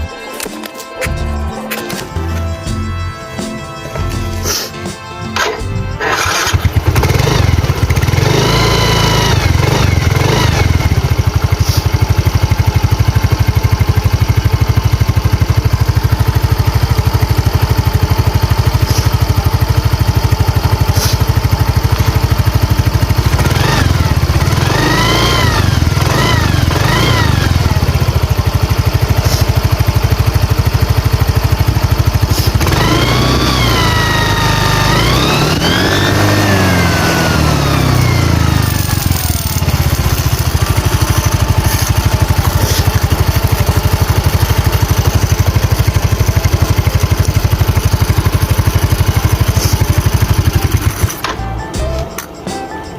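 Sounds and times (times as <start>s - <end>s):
scooter engine idling: 5.4s - 51.6s.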